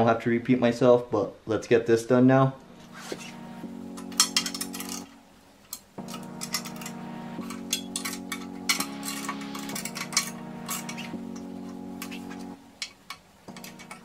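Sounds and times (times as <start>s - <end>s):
soft background music chords: 2.0s - 14.0s.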